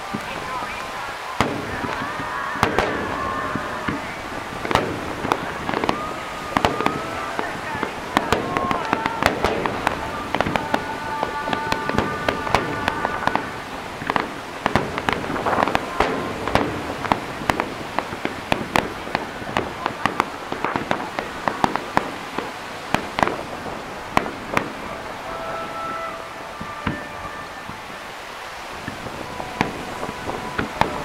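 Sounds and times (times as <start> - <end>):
fireworks bangs and pops: 0.0 - 31.0
high whistling firework tones: 0.0 - 31.0.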